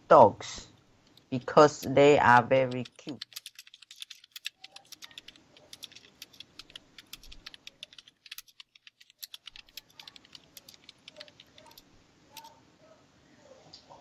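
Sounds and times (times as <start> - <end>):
computer keyboard typing: 1.0 - 12.5.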